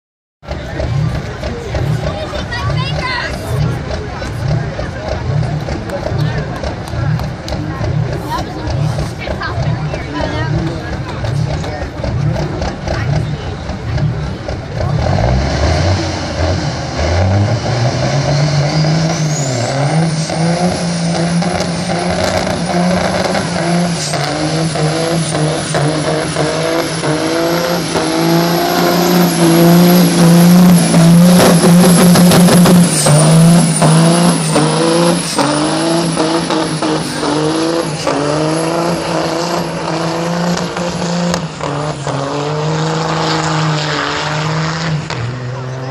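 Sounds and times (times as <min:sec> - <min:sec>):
truck diesel engine accelerating: 0:00.4 - 0:45.9.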